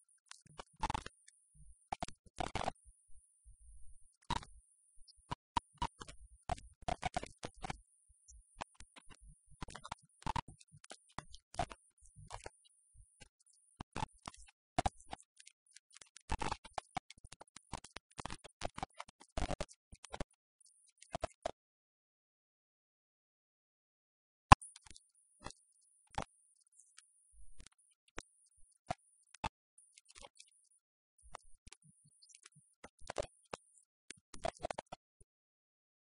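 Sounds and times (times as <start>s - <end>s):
crackling and scratching clicks: 0.1s - 3.2s, 3.8s - 21.6s, 24.5s - 35.2s.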